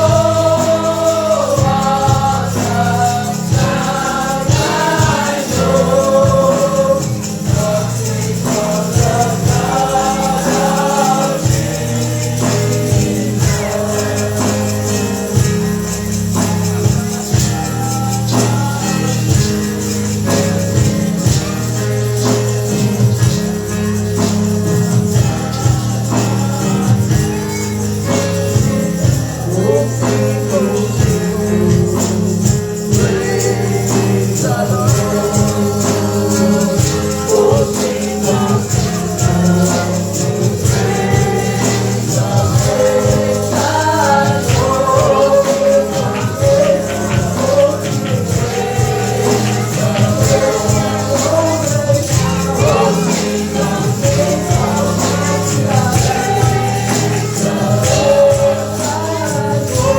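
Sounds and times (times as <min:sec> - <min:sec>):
choir singing gospel music: 0:00.0 - 0:59.9
tambourine shaking: 0:00.0 - 0:59.9.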